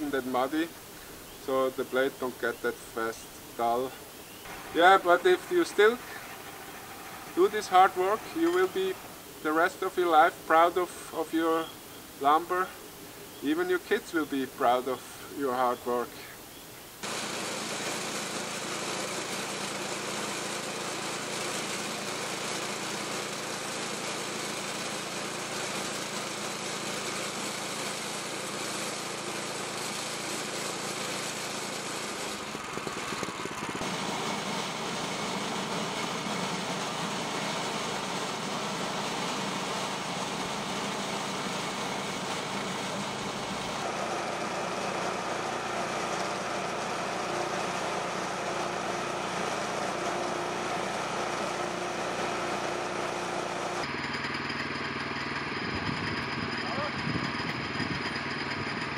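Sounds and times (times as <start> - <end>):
sawmill engine running: 0.0 - 16.1, 17.0 - 58.9.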